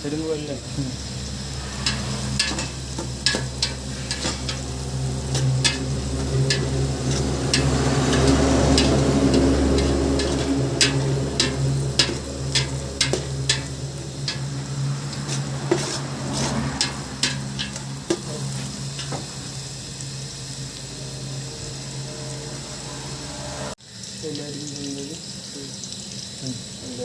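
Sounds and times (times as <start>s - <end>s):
food sizzling in oil: 0.0s - 27.0s
metal spoon scraping a pan: 0.9s - 23.7s.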